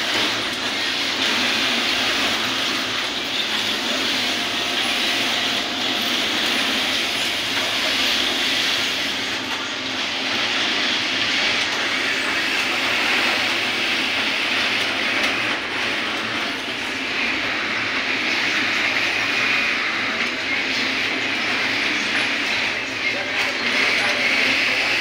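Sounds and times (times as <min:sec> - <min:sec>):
industrial sewing machines running: 0:00.0 - 0:25.0.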